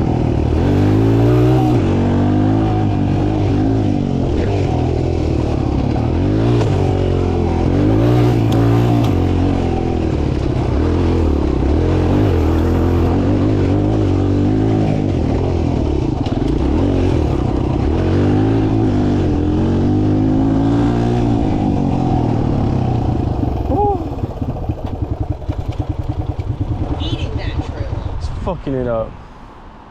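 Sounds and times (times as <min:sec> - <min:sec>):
dirt bike engine revving: 0:00.0 - 0:27.8.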